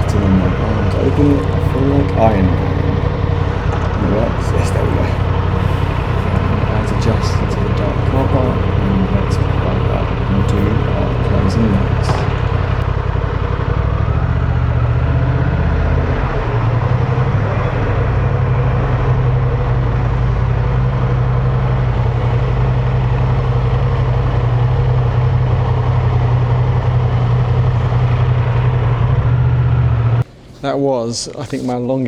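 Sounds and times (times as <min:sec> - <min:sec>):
motorcycle engine running at low revs: 0:00.0 - 0:30.2.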